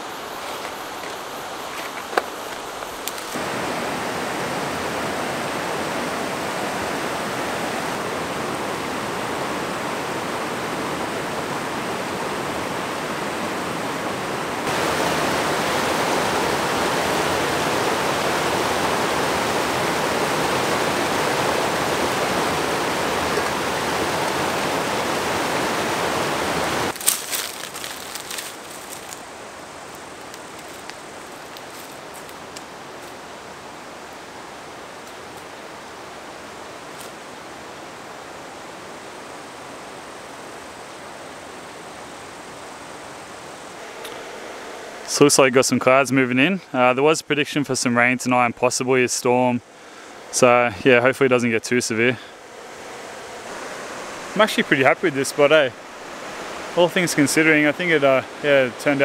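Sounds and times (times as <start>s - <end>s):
river rushing over rapids: 0.0s - 47.2s, 49.2s - 59.0s.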